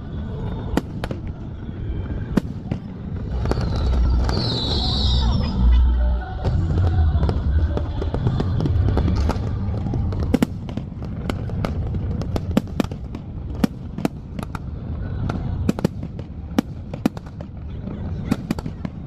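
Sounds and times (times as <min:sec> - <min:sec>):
low rumble: 0:00.0 - 0:18.3
fireworks bangs and crackles: 0:00.0 - 0:19.0.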